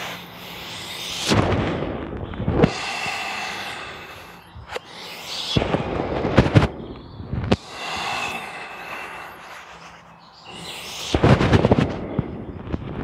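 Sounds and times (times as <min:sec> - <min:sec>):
person breathing hard: 0:00.0 - 0:02.0, 0:02.6 - 0:06.8, 0:07.6 - 0:12.6.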